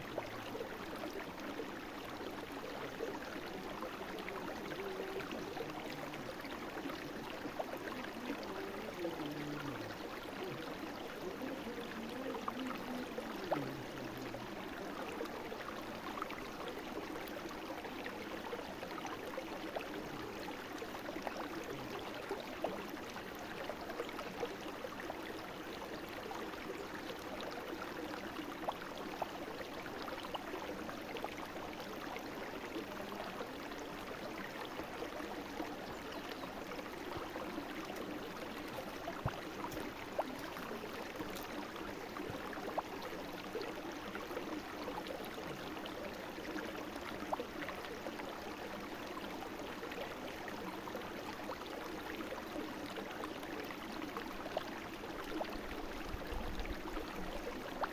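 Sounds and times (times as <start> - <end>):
brook babbling over stones: 0.0 - 57.9
small water splashes: 0.0 - 57.9.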